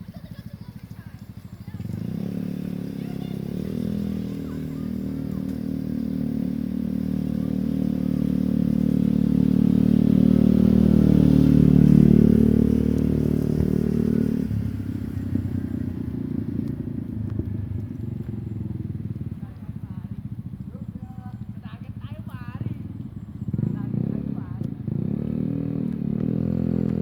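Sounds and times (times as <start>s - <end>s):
small engine running: 0.0s - 24.7s.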